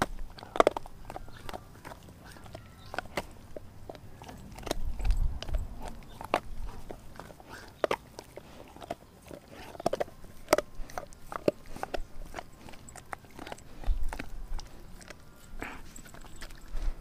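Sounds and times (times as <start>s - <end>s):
dog gnawing and crunching bone: 0.0s - 17.0s.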